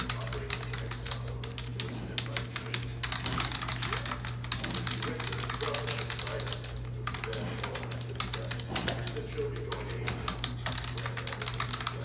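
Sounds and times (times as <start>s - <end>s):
keyboard typing: 0.0s - 12.0s
steady low hum: 0.0s - 12.0s.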